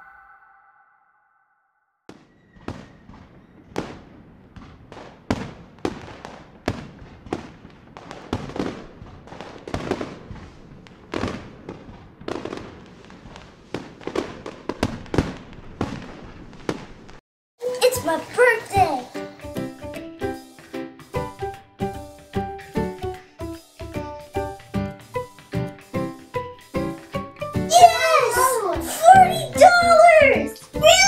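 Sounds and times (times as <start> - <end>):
fireworks bangs and crackles: 2.1 - 17.2, 20.3 - 31.0.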